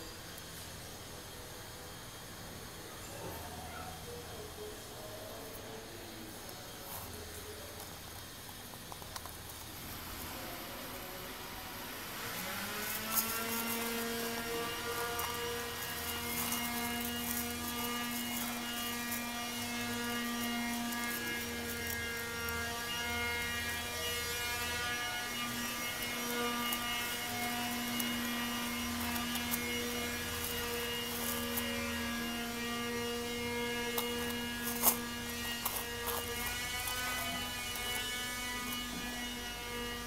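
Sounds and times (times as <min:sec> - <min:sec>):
machine hum: 0:04.1 - 0:40.0.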